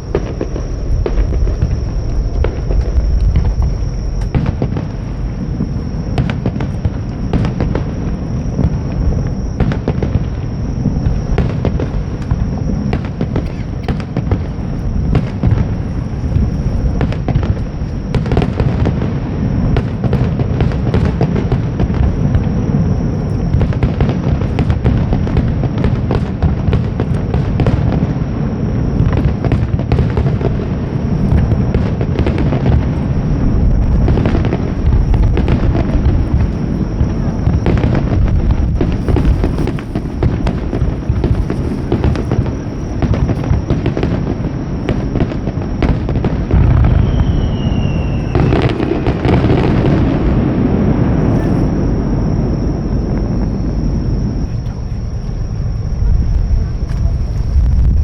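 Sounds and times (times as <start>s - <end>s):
fireworks bangs and crackles: 0.0s - 58.0s
fireworks rumble: 0.0s - 58.0s.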